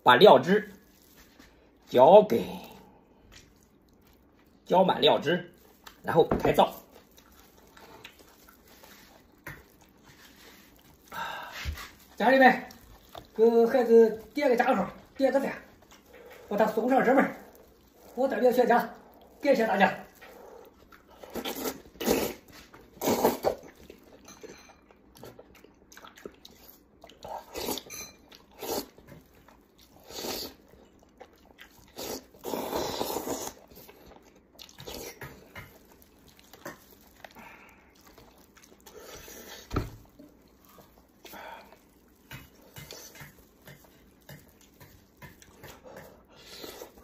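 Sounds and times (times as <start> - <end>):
wet chewing and slurping: 0.5 - 1.9, 2.5 - 47.0.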